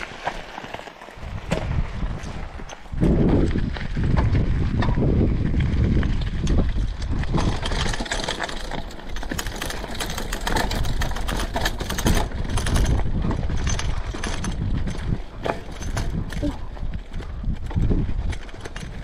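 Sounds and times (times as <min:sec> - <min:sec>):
bike rattling and knocking: 0:00.0 - 0:19.0
bike tyres on dirt and rocks: 0:00.0 - 0:19.0
wind rumble on microphone: 0:01.2 - 0:19.0.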